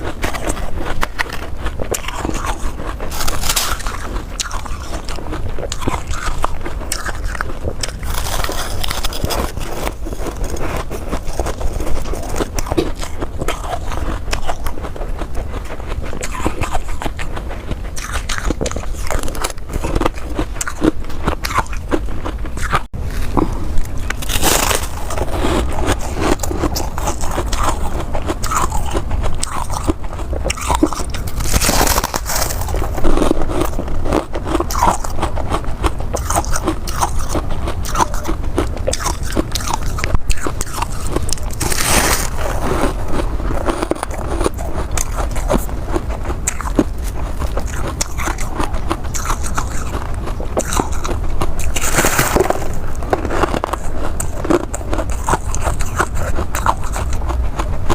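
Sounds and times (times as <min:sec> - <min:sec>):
chewing ice: 0:00.0 - 0:57.9
loud crunching bites: 0:00.0 - 0:57.9.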